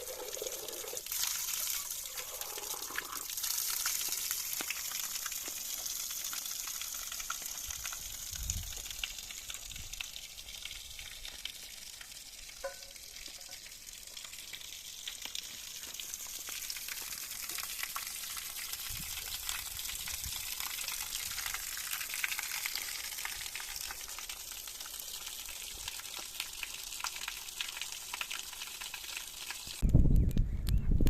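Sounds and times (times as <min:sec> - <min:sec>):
food sizzling and crackling: 0:00.0 - 0:29.8.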